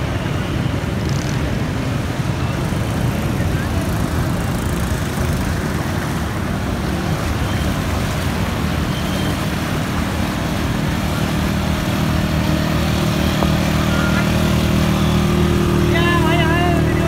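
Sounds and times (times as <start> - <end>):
water rushing and sloshing: 0.0 - 17.0
motorcycle engines running: 0.8 - 17.0.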